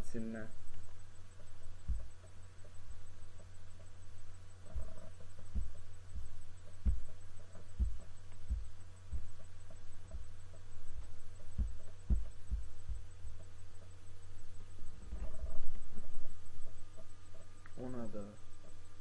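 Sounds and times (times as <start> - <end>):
dull low thumps: 0.0 - 17.6
steady low hum: 0.0 - 19.0.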